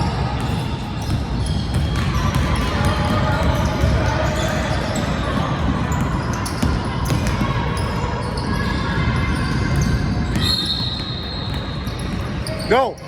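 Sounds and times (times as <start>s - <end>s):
basketball bouncing on court: 0.0s - 12.7s
crowd noise: 0.0s - 13.0s.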